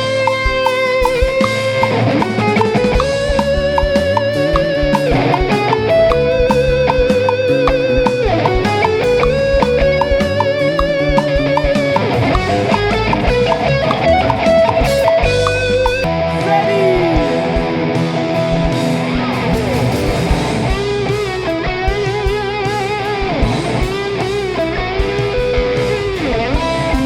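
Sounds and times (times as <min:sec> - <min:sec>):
electric guitar band music: 0:00.0 - 0:27.0.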